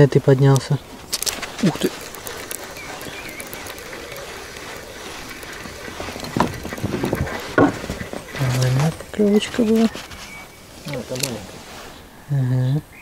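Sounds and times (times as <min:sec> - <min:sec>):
fishing reel whirring and clicking: 0:00.9 - 0:11.6.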